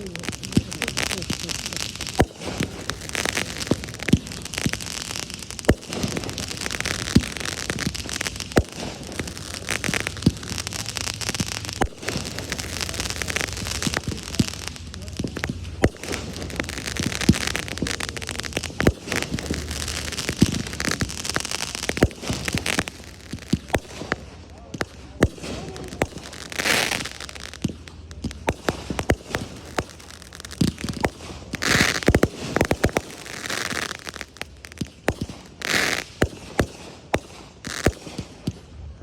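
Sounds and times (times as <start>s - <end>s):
fireworks crackling: 0.0s - 39.0s
sharp fireworks bangs: 0.0s - 39.0s.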